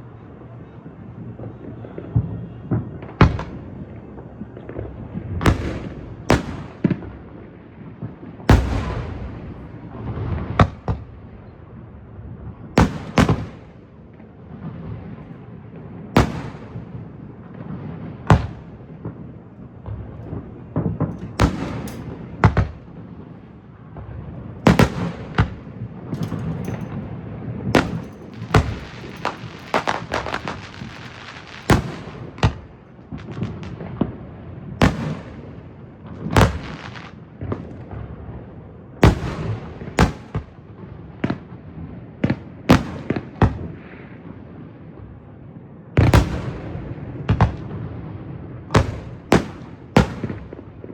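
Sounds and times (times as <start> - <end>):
fireworks rumble and crackle: 0.0 - 50.9
fireworks booming: 0.9 - 45.3, 46.0 - 50.9.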